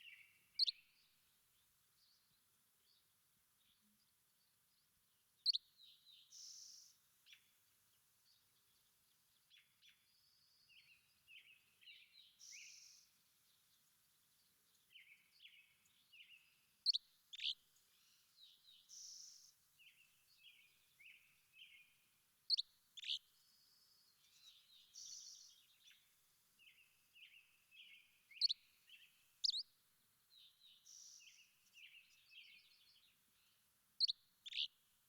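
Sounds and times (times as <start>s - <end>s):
songbird chirping: 0.0s - 35.0s.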